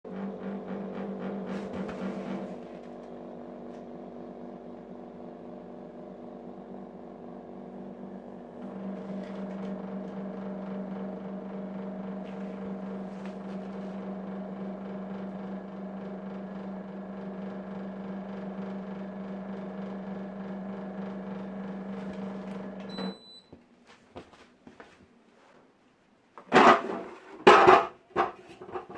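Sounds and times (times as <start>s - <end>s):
dehumidifier humming: 0.1s - 25.4s.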